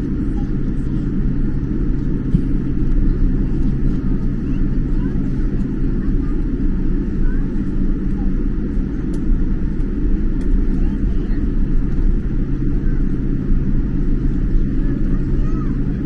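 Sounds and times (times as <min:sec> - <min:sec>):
jet engines low rumble: 0:00.0 - 0:16.0.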